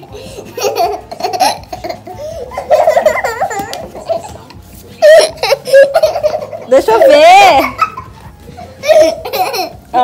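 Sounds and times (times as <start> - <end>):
girl giggling: 0.4 - 9.8.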